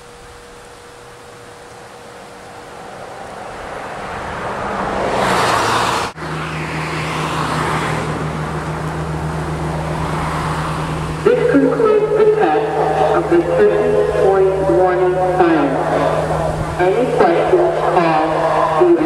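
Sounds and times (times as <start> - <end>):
low engine hum: 0.0 - 19.0
road traffic noise: 0.0 - 19.0.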